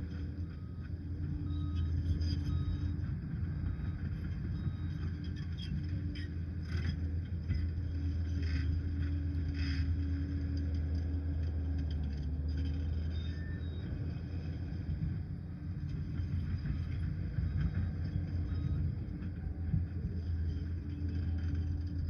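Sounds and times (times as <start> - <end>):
dozer diesel engine drone: 0.0 - 22.0.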